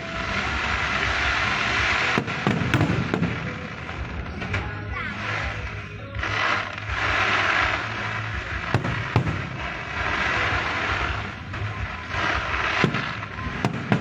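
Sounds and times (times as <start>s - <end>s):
fireworks crackling hiss: 0.0s - 14.0s
sharp firework bangs: 0.0s - 14.0s.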